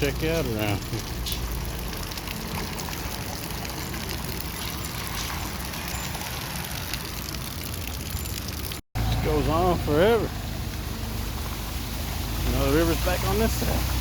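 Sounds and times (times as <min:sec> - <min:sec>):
rain falling: 0:00.0 - 0:14.0
rainwater rushing through street: 0:00.0 - 0:14.0.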